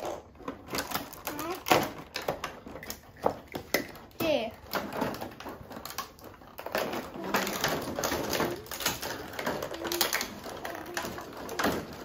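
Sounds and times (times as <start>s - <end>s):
plastic pieces clicking in tray: 0.0s - 12.0s.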